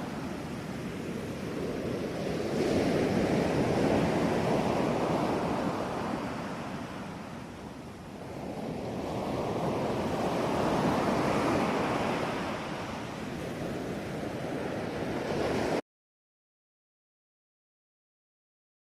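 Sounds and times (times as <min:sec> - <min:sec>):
ocean waves washing in: 0:00.0 - 0:15.8.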